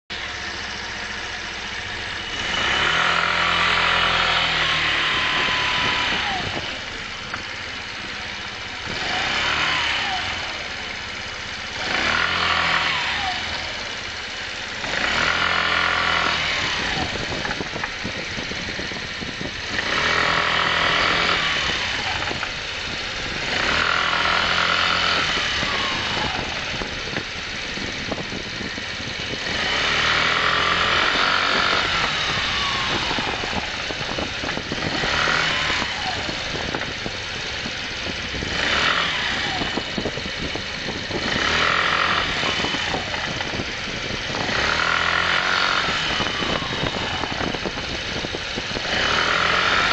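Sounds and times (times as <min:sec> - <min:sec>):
motorcycle engine revving: 0:00.1 - 0:49.9.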